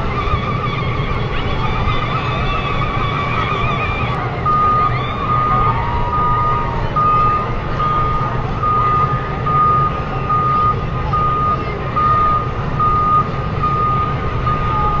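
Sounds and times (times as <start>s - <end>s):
truck engine running: 0.0s - 15.0s
truck reversing alarm beeping: 0.0s - 15.0s.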